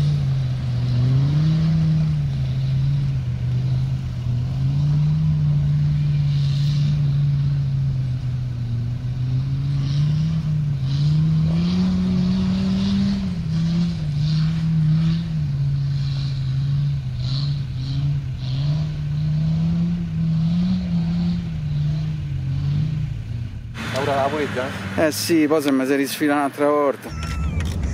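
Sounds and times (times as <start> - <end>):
off-road vehicle engine revving: 0.0 - 27.9.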